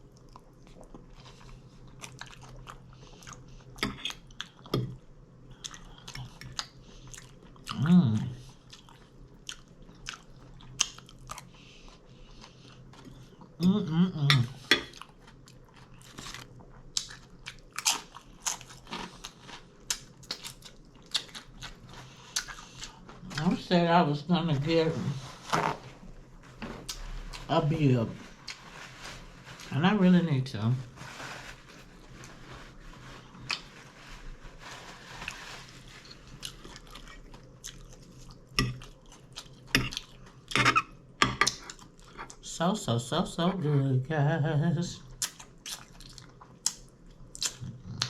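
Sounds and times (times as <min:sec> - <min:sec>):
person chewing with wet crunches: 0:00.0 - 0:13.6, 0:14.3 - 0:23.6, 0:26.4 - 0:27.6, 0:28.3 - 0:29.8, 0:31.9 - 0:42.4, 0:45.1 - 0:48.0.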